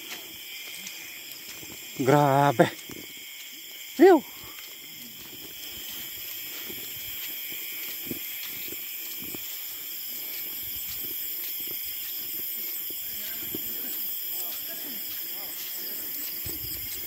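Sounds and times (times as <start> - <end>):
night insects chorus: 0.0 - 17.0
soft footsteps on grassy path: 0.0 - 17.0.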